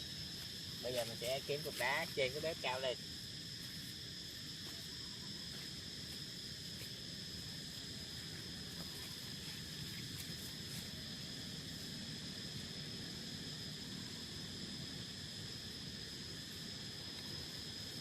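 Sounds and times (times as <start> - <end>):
high-pitched insect trill: 0.0 - 18.0.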